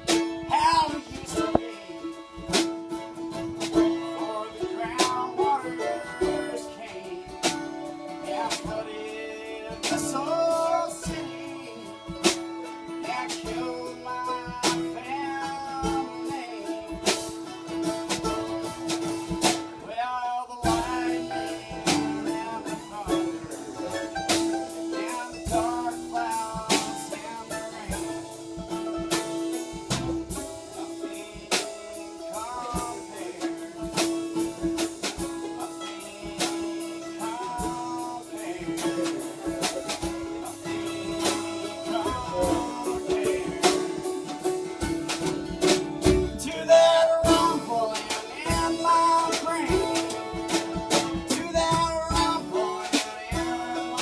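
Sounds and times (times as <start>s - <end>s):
bowed fiddle: 0.0s - 20.0s, 20.6s - 54.0s
drum kit: 0.0s - 20.0s, 20.6s - 54.0s
picked mandolin: 0.0s - 54.0s
strummed acoustic guitar: 0.0s - 54.0s.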